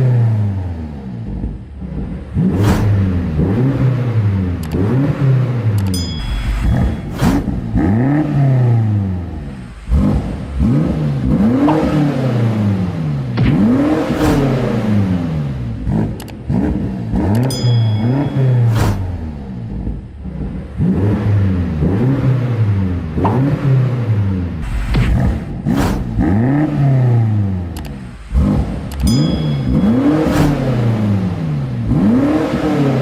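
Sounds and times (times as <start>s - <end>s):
car engine revving: 0.0s - 33.0s
exhaust cracks: 1.2s - 5.9s, 6.6s - 22.0s, 23.1s - 32.8s.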